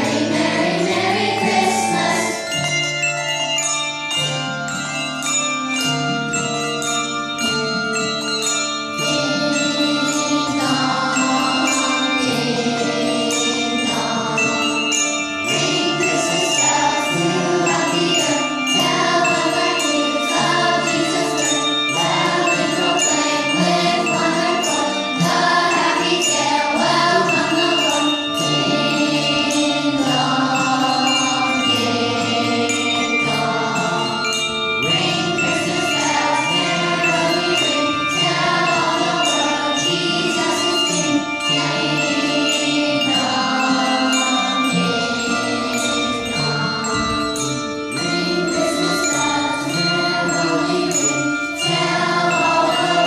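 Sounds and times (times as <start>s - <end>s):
children's choir singing: 0.0s - 53.0s
handbells ringing: 0.0s - 53.0s.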